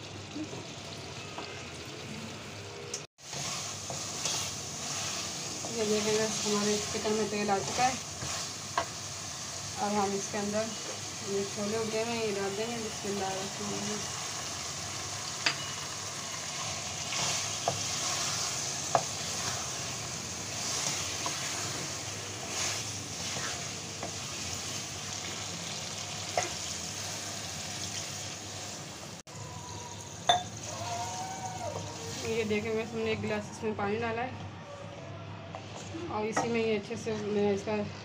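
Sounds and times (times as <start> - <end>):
food sizzling in a pan: 0.0 - 33.4.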